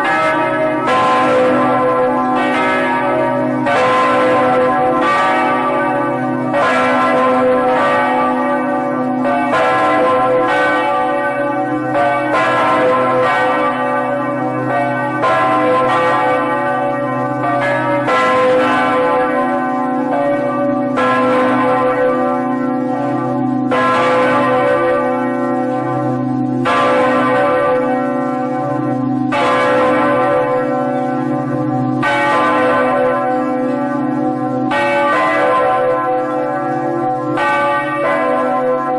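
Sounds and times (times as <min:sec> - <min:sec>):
large bell ringing: 0:00.0 - 0:38.9.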